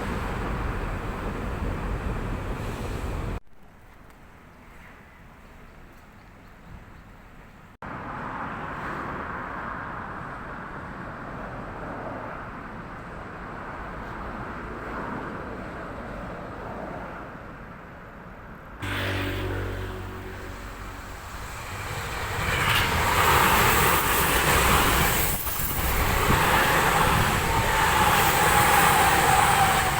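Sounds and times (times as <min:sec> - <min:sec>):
train rumble and rail noise: 0:00.0 - 0:29.9.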